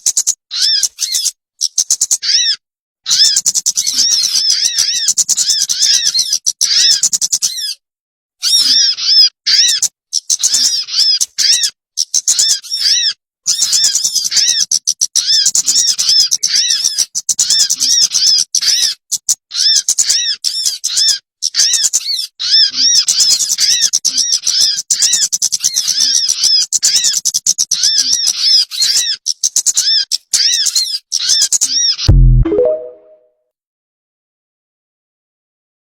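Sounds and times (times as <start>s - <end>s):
recorded bird chatter: 0.0s - 7.8s, 8.4s - 32.1s.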